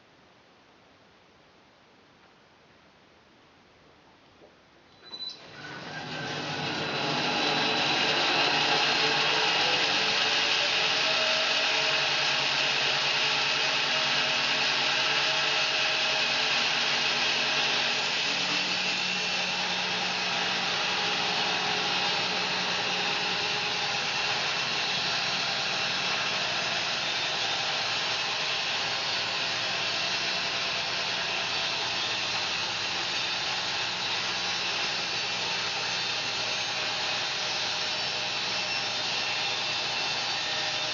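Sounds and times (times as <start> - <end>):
mill machinery running: 5.1 - 40.9
bandsaw blade sawing wood: 5.4 - 40.9.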